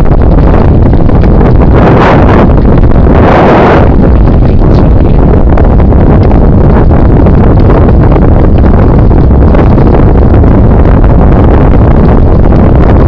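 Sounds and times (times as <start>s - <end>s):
wind buffeting on microphone: 0.0s - 13.0s.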